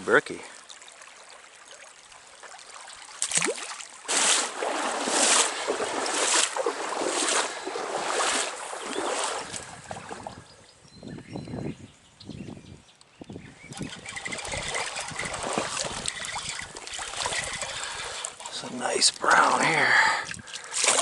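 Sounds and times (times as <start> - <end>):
legs wading through water: 0.5 - 10.5, 13.6 - 21.0.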